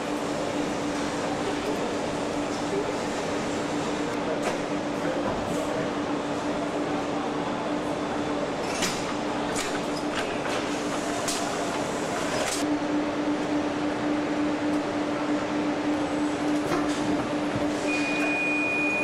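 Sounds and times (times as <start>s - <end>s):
factory machinery hum: 0.0s - 19.0s.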